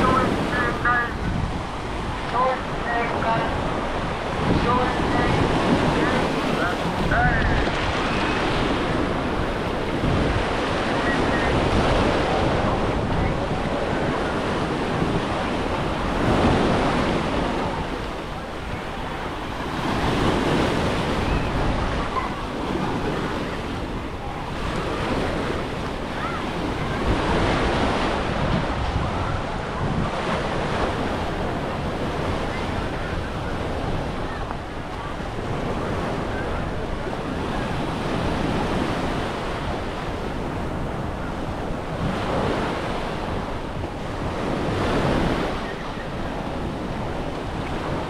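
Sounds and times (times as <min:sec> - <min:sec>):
sea waves breaking: 0:00.0 - 0:48.0
wind on microphone: 0:00.0 - 0:48.0.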